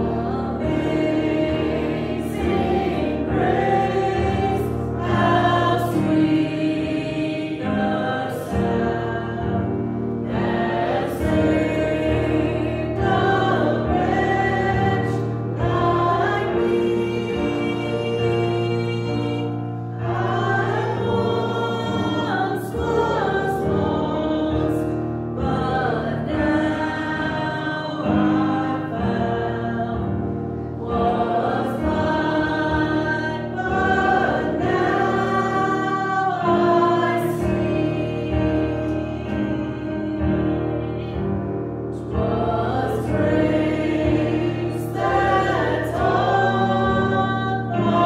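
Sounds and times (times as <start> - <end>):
congregation singing a hymn: 0.0 - 48.0
instrumental accompaniment: 0.0 - 48.0.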